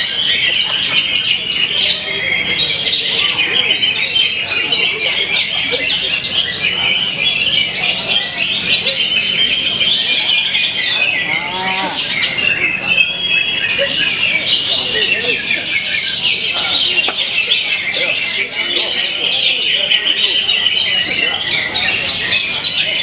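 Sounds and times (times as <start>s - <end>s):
songbirds singing in chorus: 0.0s - 23.0s.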